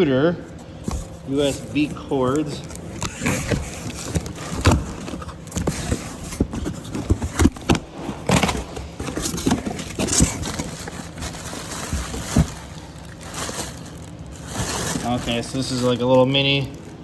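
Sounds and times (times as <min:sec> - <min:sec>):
plastic and cardboard packing rustling: 0:00.4 - 0:17.0
items knocking and clicking: 0:00.8 - 0:16.9.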